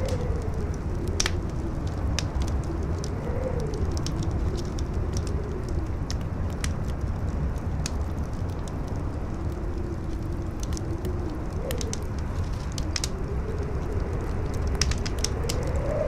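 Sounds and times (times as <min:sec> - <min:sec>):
campfire crackling: 0:00.0 - 0:16.0
howling wind: 0:00.0 - 0:16.0.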